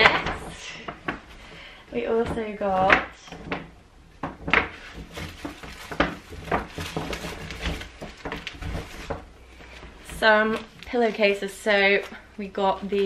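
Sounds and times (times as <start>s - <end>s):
bedding packs rustling and knocking: 0.0s - 12.1s.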